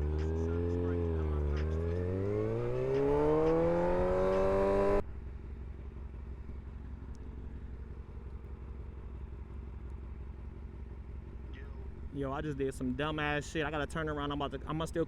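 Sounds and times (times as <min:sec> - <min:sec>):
motorcycle engine accelerating: 0:00.0 - 0:13.1
low steady rumble: 0:00.0 - 0:15.0
road and wind noise: 0:00.0 - 0:15.0.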